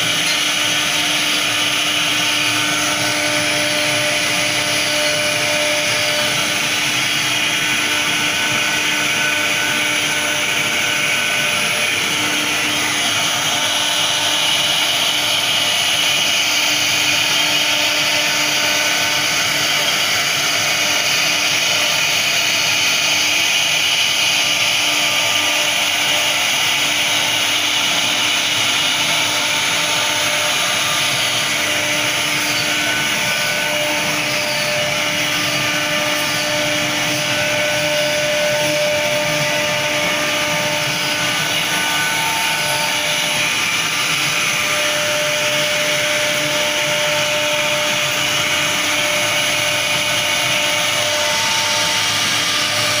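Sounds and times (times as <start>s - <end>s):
router spindle whine: 0.0s - 53.0s.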